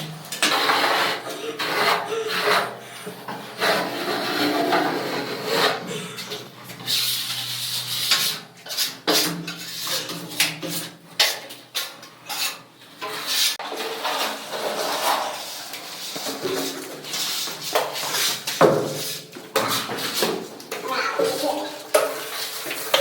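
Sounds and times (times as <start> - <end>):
hand tool scraping hard surface: 0.0 - 23.0.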